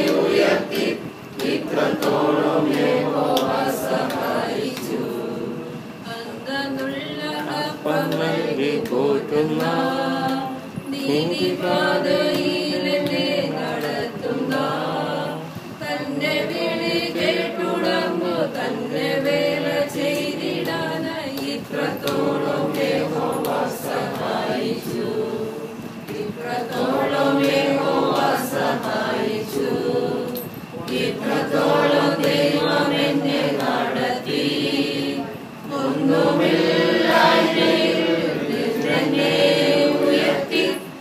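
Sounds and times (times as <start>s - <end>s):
group of women singing: 0.0s - 41.0s.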